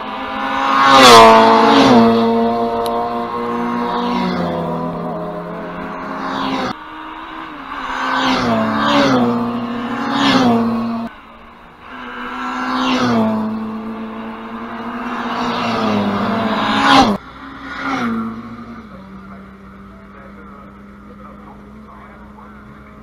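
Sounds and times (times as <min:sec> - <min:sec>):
race cars passing: 0:00.0 - 0:23.0.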